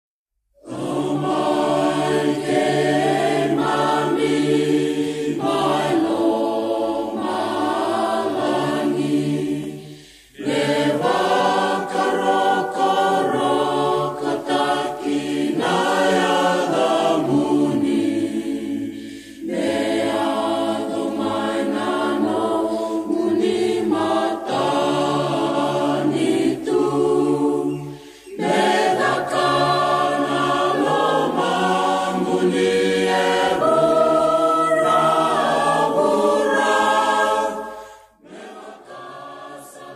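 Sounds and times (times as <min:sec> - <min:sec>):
choir singing a slow hymn: 0:00.6 - 0:39.9.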